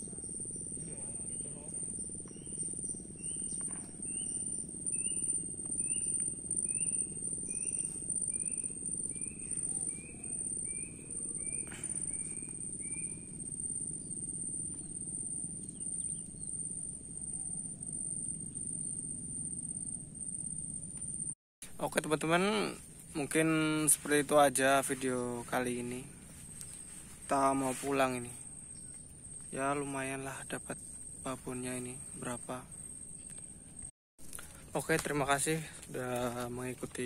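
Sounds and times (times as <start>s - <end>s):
insect chorus drone: 0.0s - 37.0s.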